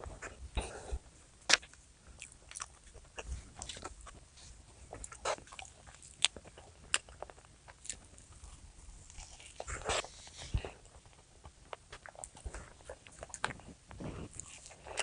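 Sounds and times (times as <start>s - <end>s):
person biting and chewing food: 1.5s - 4.2s, 4.9s - 15.0s.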